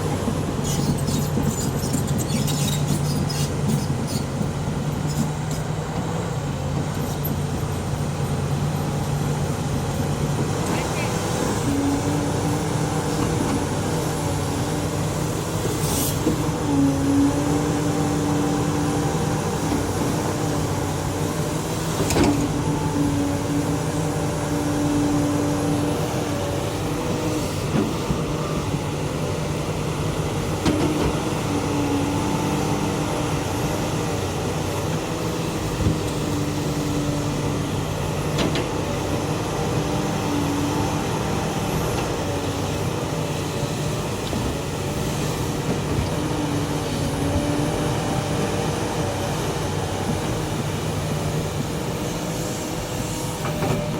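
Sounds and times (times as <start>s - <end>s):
excavator diesel engine humming: 0.0s - 53.9s
high engine whine: 0.0s - 53.9s.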